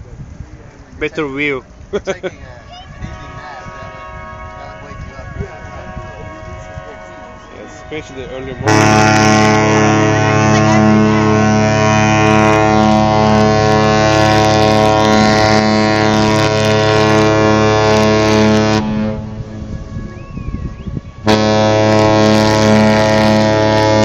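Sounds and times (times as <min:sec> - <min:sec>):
ship horn blast: 0:02.5 - 0:24.0.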